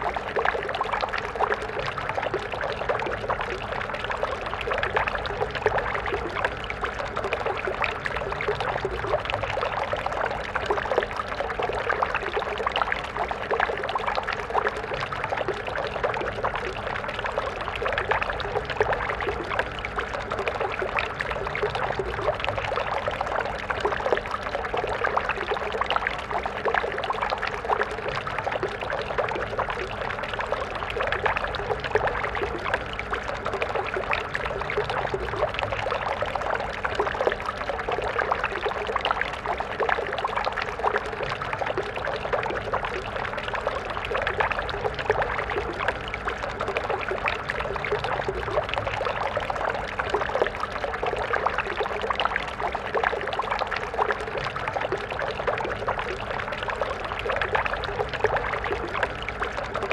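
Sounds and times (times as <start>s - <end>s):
stream water flowing over stones: 0.0s - 59.9s.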